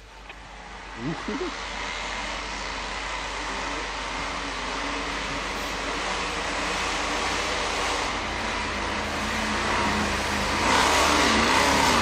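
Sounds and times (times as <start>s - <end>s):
off-road truck engines revving: 0.0s - 12.0s.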